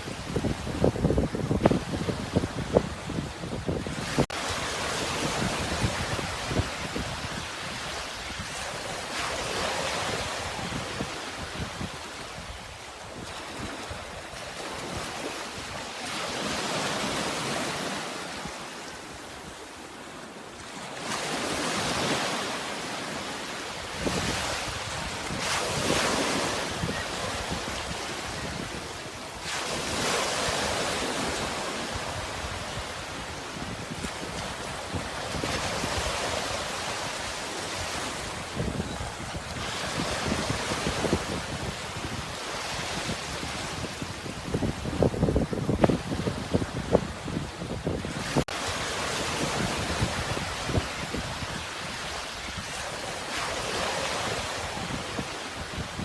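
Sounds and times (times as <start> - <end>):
sea waves washing in: 0.0 - 56.0.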